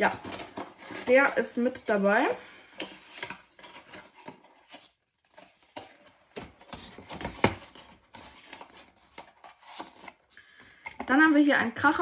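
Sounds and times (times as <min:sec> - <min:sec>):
packaging rustling: 0:00.0 - 0:02.1, 0:02.7 - 0:10.4.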